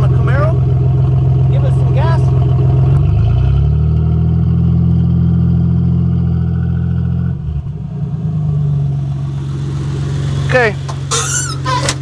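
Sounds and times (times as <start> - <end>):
car engine idling: 0.0 - 12.0
car engine revving: 0.0 - 12.0.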